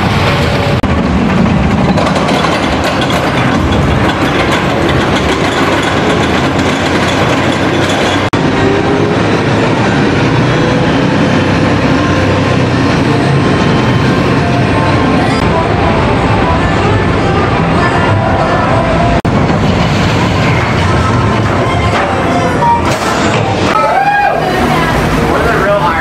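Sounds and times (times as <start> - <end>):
roller coaster wheel rush: 0.0 - 26.0.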